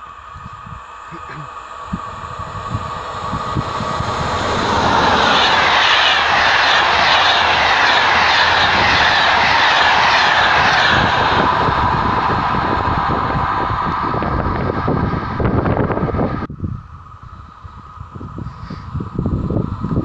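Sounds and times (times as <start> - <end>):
train wheels rushing on rail: 0.0 - 20.0.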